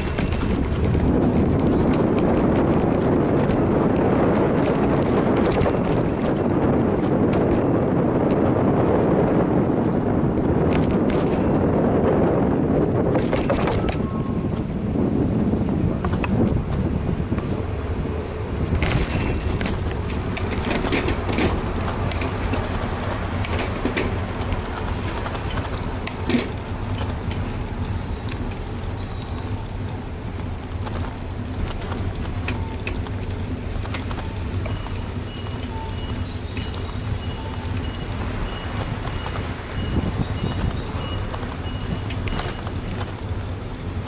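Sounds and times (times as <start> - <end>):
bicycle clicks and rattles: 0.0 - 14.7, 16.0 - 44.0
wind and tyres rumbling: 0.0 - 44.0.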